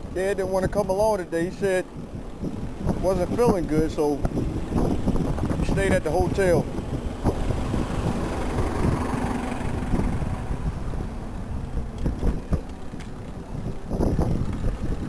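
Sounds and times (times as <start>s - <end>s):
city traffic rumble: 0.0s - 15.0s
wind buffeting microphone: 0.0s - 15.0s.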